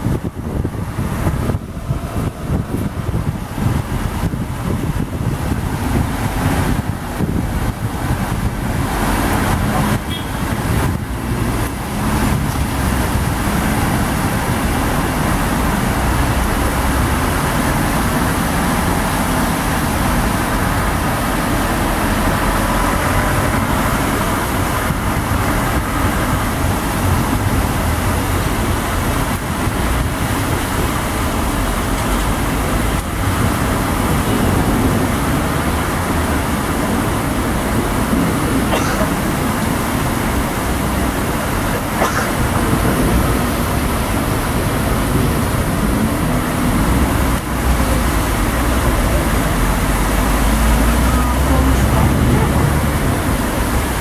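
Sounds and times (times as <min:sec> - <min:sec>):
car engines: 0:00.0 - 0:54.0
tyres splashing through water: 0:00.0 - 0:54.0.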